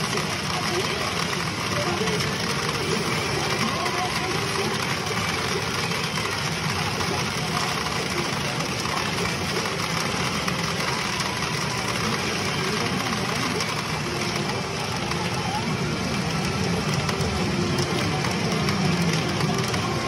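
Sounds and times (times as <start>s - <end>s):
pachinko machines and rattling balls: 0.0s - 20.0s.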